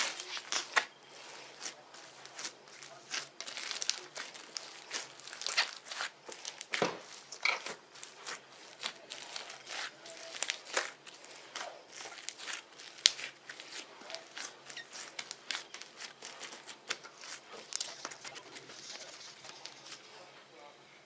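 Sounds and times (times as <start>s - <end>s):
slime being squished by hand: 1.6s - 19.8s.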